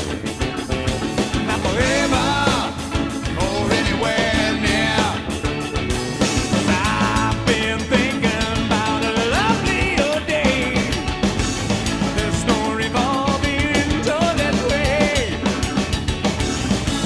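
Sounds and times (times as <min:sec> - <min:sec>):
lead guitar bending notes: 0:00.0 - 0:13.7
rock band playing: 0:00.0 - 0:17.0.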